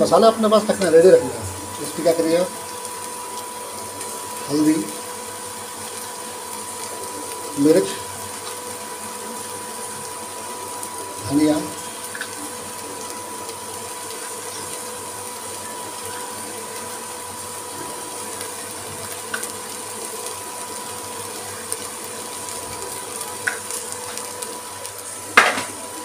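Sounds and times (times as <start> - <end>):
cooktop hum and whine: 0.0 - 26.0
light sizzle of onions cooking: 0.0 - 26.0.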